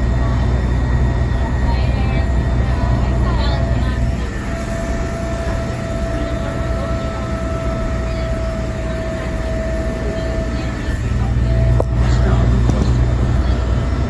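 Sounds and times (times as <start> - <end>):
bus engine and road rumble: 0.0 - 14.0
steady whine: 0.0 - 14.0.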